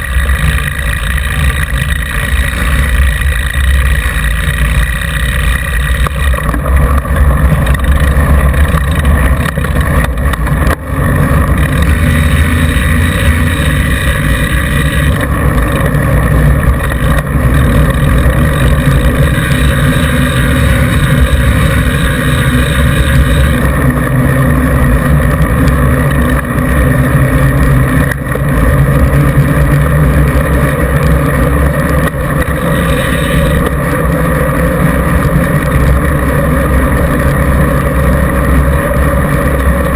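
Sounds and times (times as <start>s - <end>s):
bike tyre rolling on asphalt: 0.0s - 39.9s.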